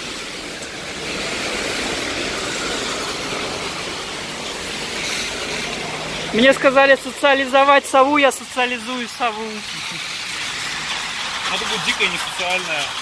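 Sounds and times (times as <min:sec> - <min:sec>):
car tyres hissing on wet road: 0:00.0 - 0:13.0
falling rain: 0:00.0 - 0:13.0.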